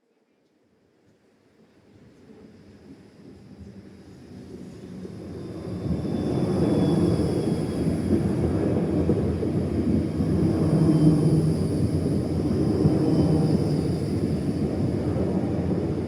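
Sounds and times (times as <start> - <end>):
train rumbling past: 2.1 - 16.0.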